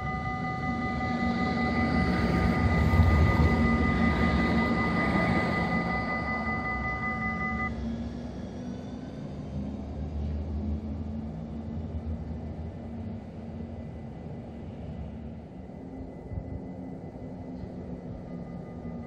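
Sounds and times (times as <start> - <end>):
tram electric whine: 0.0 - 19.0
tram low rumble: 0.0 - 19.0.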